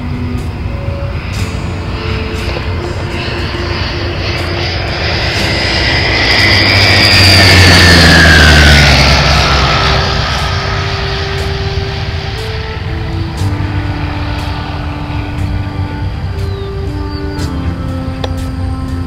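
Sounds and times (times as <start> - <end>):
light aircraft engine passing: 0.0 - 19.0.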